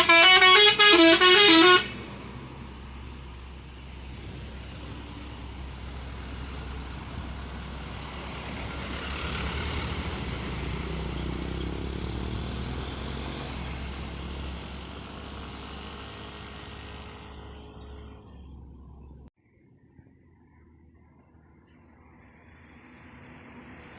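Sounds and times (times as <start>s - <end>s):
truck driving past: 0.0s - 19.3s, 20.1s - 23.9s.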